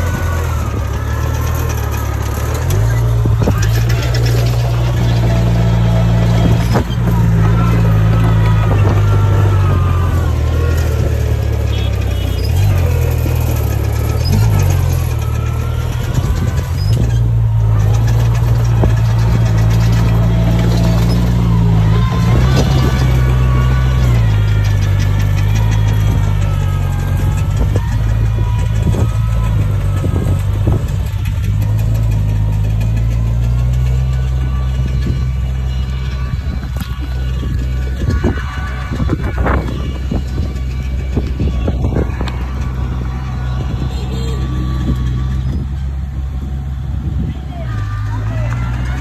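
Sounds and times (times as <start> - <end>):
bulldozer diesel engine running: 0.0 - 49.0
wavering squeals: 0.0 - 49.0.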